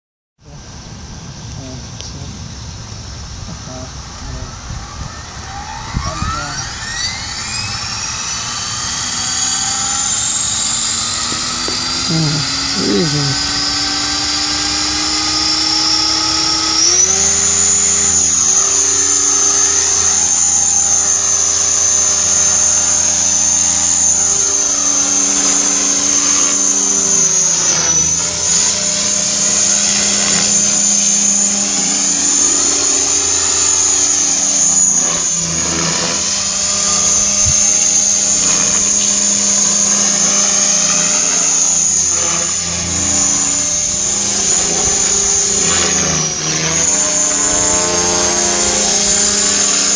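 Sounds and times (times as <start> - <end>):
rotor blade hum: 0.4 - 49.9
model helicopter motor whine: 0.5 - 49.9.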